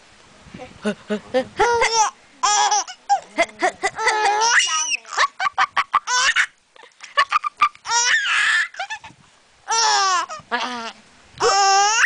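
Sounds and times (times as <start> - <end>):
baby laughing and squealing: 1.6 - 12.0.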